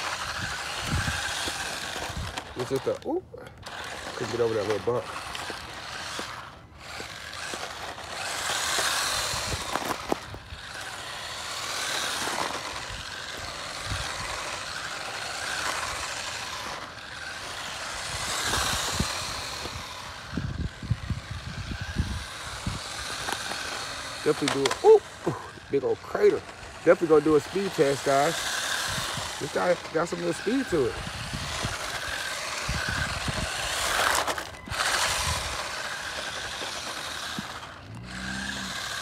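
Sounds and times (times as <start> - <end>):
small electric motor whining: 0.0 - 39.0
tyre noise on asphalt: 0.0 - 39.0.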